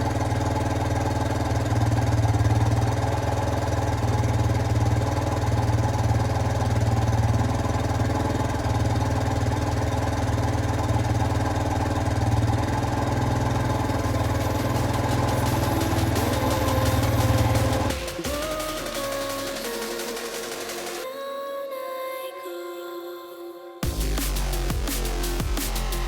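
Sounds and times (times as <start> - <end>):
motorcycle engine running: 0.0 - 21.0, 23.8 - 26.0.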